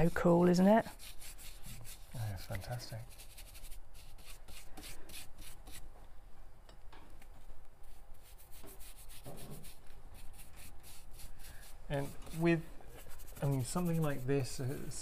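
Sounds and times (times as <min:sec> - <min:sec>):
paintbrush scrubbing on fabric: 0:00.0 - 0:05.8, 0:07.8 - 0:15.0.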